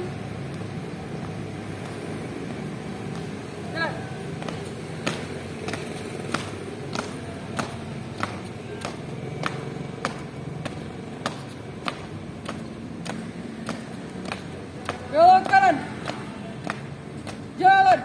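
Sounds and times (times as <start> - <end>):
marching footsteps on hard ground: 0.4 - 18.0.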